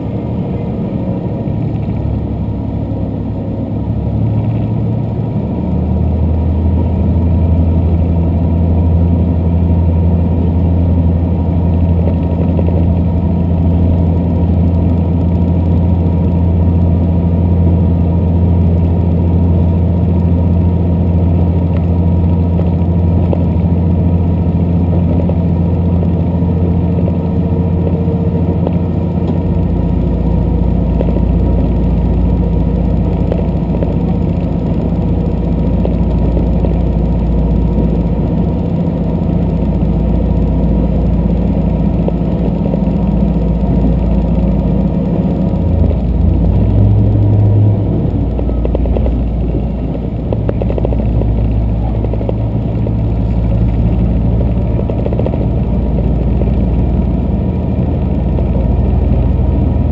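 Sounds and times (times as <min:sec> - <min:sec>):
deep hum: 0:00.0 - 0:59.9
train engine drone: 0:00.0 - 0:59.9
train running noise: 0:00.0 - 0:59.9.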